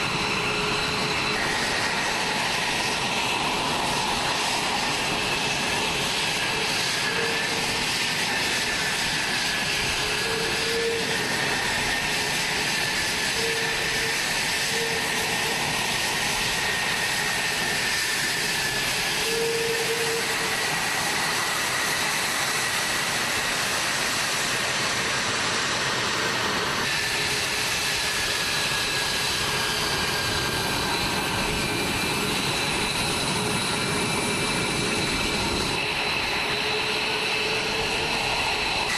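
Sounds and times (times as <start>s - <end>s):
jet engines running with whine: 0.0s - 38.9s.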